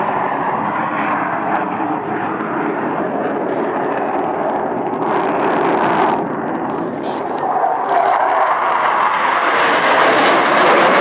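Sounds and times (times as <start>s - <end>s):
jet noise: 0.0s - 11.0s.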